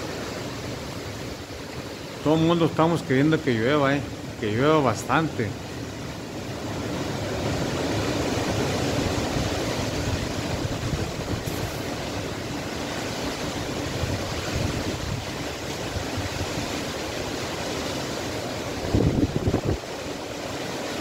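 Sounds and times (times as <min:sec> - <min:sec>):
strong wind rushing through trees: 0:00.0 - 0:21.0.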